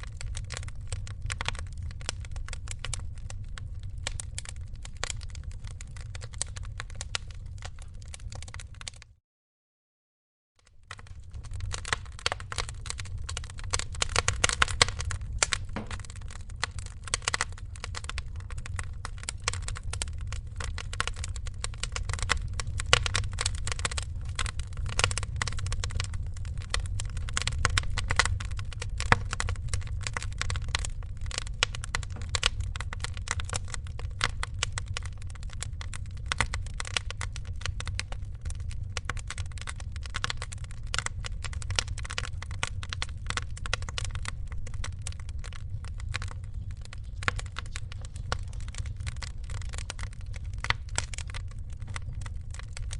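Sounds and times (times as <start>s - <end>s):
wood fire crackling and popping: 0.0s - 9.1s, 10.6s - 52.9s
low rumble of flames: 0.0s - 9.2s, 10.6s - 52.9s.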